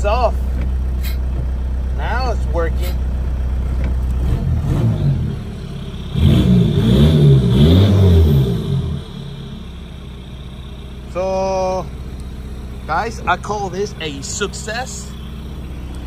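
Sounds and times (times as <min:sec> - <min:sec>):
diesel engine idling and revving: 0:00.0 - 0:16.0.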